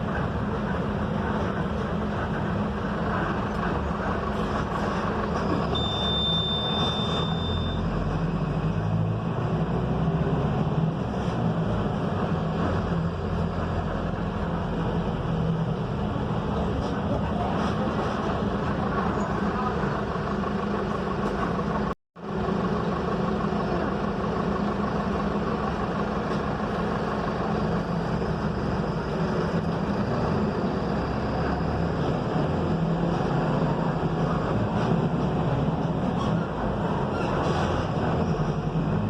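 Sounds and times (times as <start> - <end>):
bus diesel engine running: 0.0 - 39.0
road noise: 0.0 - 39.0.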